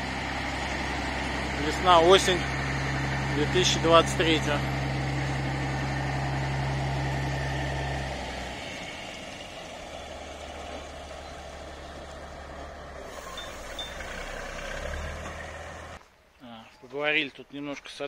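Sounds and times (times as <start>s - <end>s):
diesel truck engine drone: 0.0s - 16.0s
tyres rumbling: 0.0s - 16.2s.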